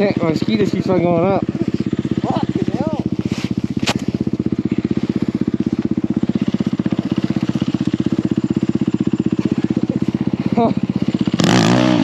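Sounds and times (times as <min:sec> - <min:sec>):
single-cylinder engine puttering: 0:00.0 - 0:12.0.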